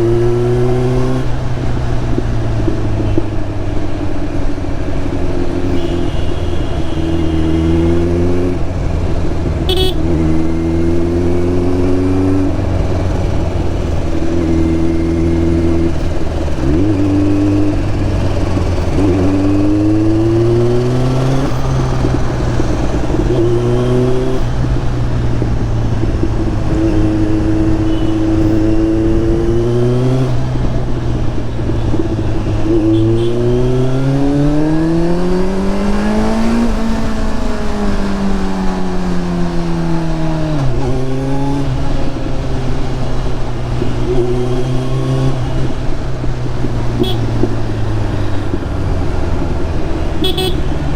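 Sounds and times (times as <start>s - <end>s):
motorcycle engine revving through gears: 0.0s - 50.9s.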